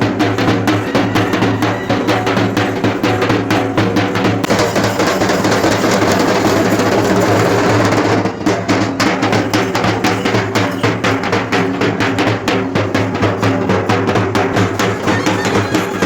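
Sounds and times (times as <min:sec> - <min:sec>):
procession drums playing fast rhythm: 0:00.0 - 0:16.0.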